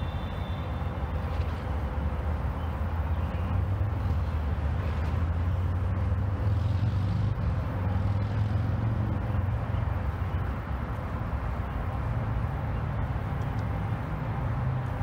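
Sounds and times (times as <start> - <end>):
heavy engine drone: 0.0 - 15.0
road traffic rumble: 0.0 - 15.0.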